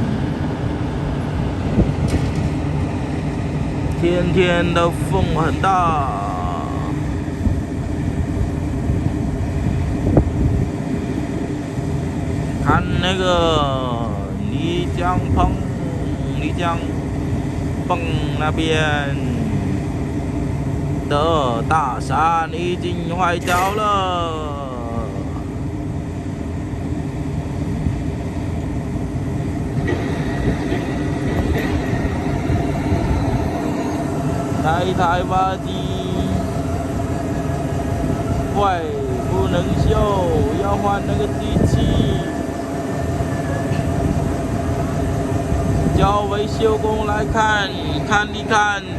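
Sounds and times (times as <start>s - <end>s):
construction machinery rumbling: 0.0s - 48.9s
excavator engine running: 0.0s - 48.9s
wind buffeting microphone: 0.0s - 48.9s
faint high whine: 3.4s - 48.9s.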